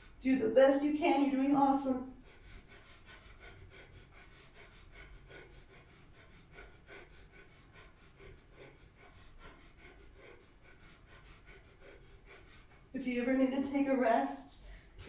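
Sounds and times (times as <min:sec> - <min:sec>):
rapid nasal breathing: 0:01.5 - 0:15.0.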